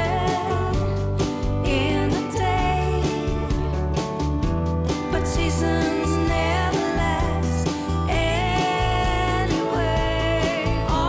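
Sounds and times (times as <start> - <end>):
country music with guitar and bass: 0.0 - 11.0.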